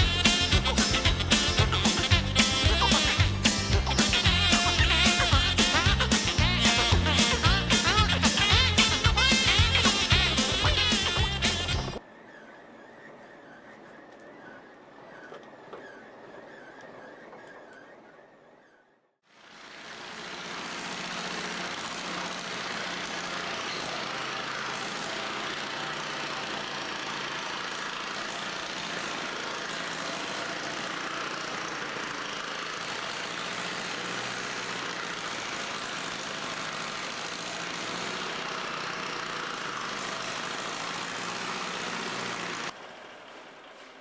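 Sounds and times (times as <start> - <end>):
diesel engine idling: 0.0 - 12.0, 19.4 - 44.0.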